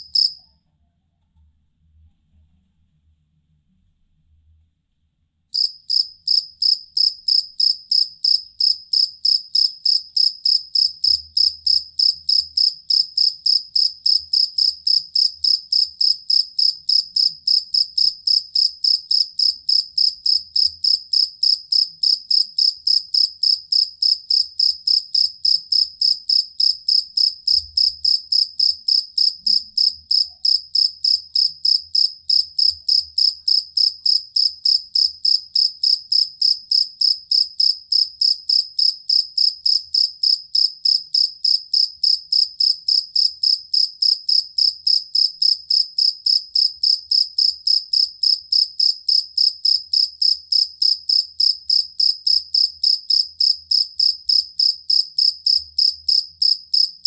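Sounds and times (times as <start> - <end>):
cricket chirping: 0.0 - 0.5, 5.6 - 57.0.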